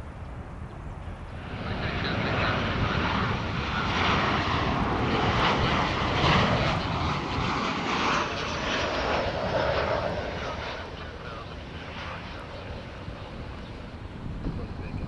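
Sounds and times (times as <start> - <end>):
airliner engines: 0.0 - 15.0.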